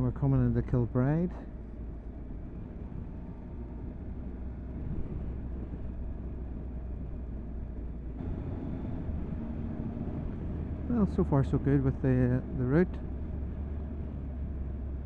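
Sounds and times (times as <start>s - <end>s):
wind and road noise: 0.0s - 15.0s
motorcycle engine running: 1.5s - 15.0s.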